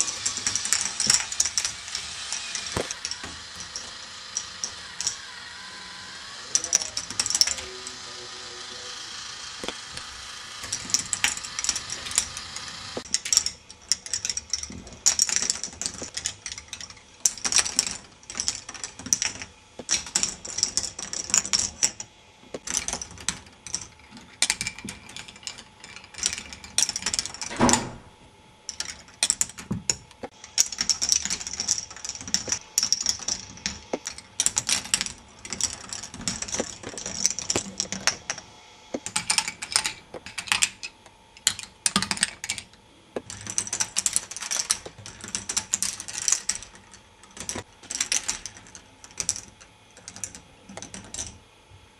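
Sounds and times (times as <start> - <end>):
plastic balls rolling on tracks: 0.0 - 27.6, 28.7 - 51.4.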